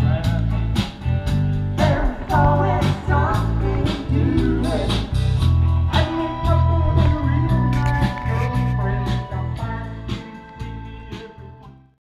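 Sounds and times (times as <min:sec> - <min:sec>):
steady drum beat: 0:00.0 - 0:11.5
bass notes: 0:00.0 - 0:12.0
guitar: 0:00.0 - 0:12.0
person singing: 0:01.8 - 0:11.9.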